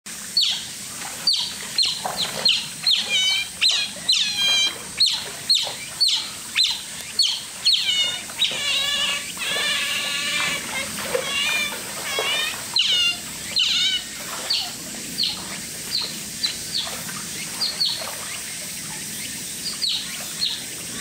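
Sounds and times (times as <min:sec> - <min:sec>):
otters chirping: 0:00.4 - 0:21.0.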